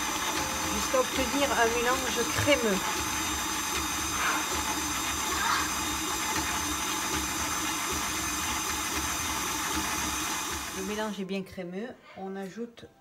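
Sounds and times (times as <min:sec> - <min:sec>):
whisk beating in glass bowl: 0:00.0 - 0:11.1
electric stand mixer running: 0:00.0 - 0:11.2.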